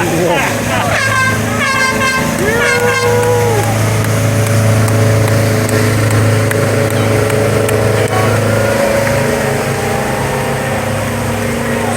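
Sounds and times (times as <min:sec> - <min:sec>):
motorboat engines humming: 0:00.0 - 0:11.9.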